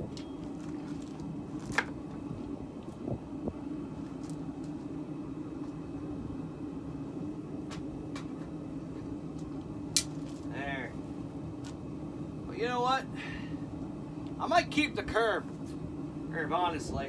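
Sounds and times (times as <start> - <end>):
forge humming: 0.0 - 17.0.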